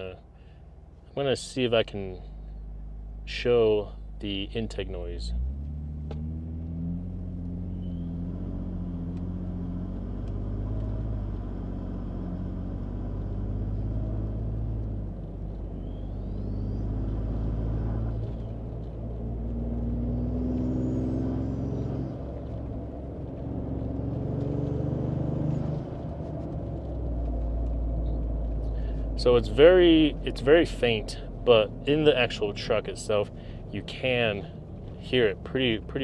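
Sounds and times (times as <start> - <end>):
engine and exhaust drone: 0.0 - 36.0.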